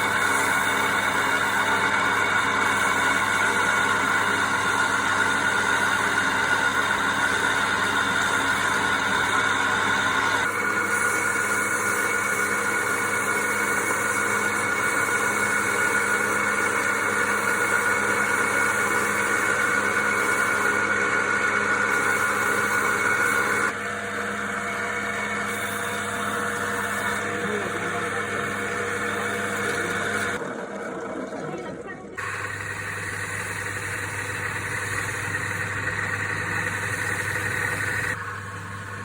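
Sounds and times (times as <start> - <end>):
wood lathe motor hum and whine: 0.0 - 39.0.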